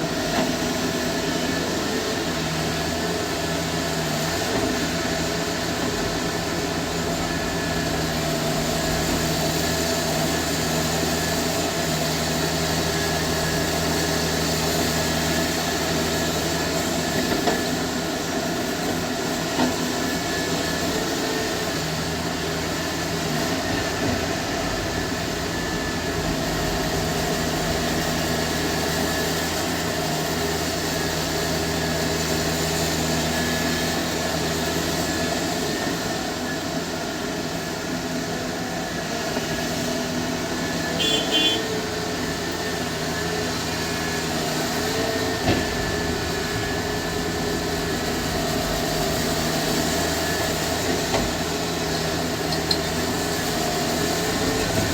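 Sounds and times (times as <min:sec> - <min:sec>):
diesel engine drone: 0:00.0 - 0:54.9.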